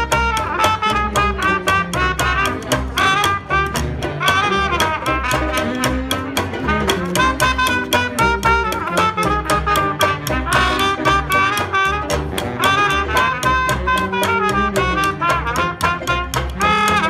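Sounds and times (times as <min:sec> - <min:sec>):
plucked upright bass: 0:00.0 - 0:17.0
saxophone: 0:00.0 - 0:17.0
strummed banjo: 0:00.0 - 0:17.0
trumpets: 0:00.0 - 0:17.0.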